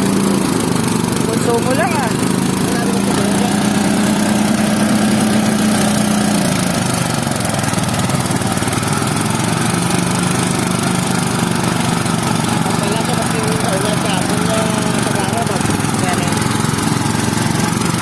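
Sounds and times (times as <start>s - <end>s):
engine humming loudly: 0.0s - 18.0s.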